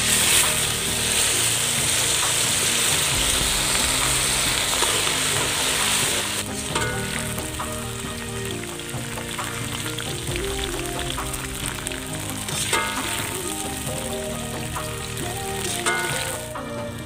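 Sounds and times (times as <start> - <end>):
oil sizzling in a wok: 0.0 - 16.8.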